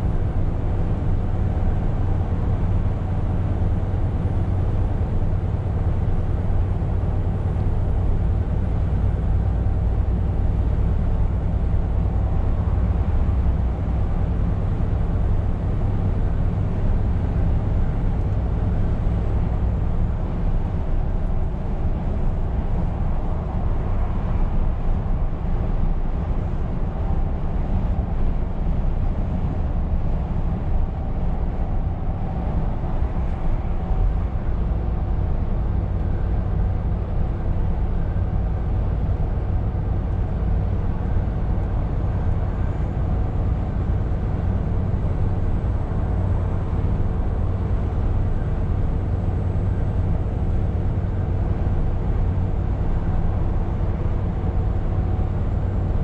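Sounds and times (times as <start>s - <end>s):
truck engine drone: 0.0s - 56.0s.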